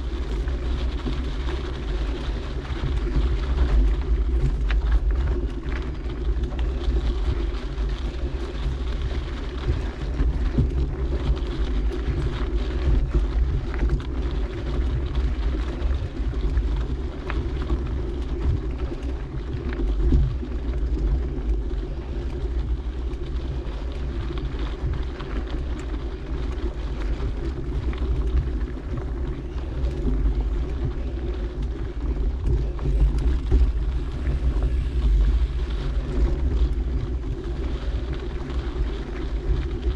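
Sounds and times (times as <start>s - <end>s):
bike clicks and rattles: 0.0s - 39.9s
bike tyres rumbling over dirt: 0.0s - 39.9s
wind buffeting microphone: 0.0s - 39.9s.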